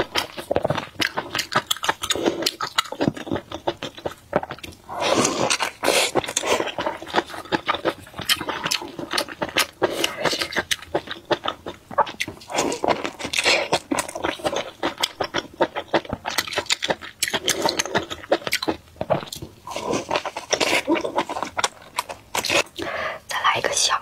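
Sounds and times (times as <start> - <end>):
wet eating clicks and smacks: 0.1 - 4.8, 5.5 - 22.9.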